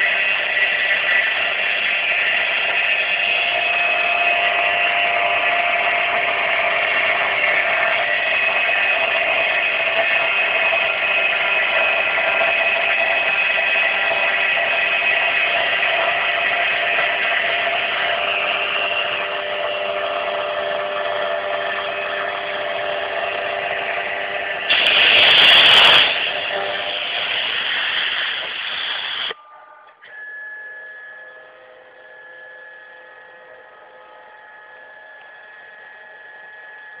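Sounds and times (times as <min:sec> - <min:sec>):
router spindle whining: 0:00.0 - 0:37.0.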